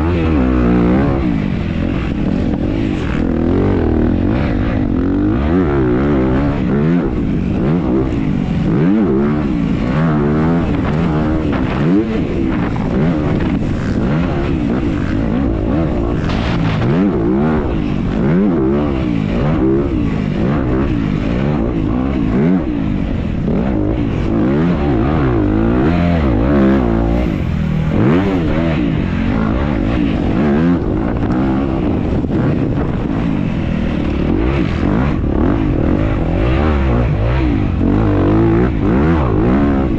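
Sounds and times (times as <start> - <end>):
off-road motorcycle engine revving: 0.0 - 39.9.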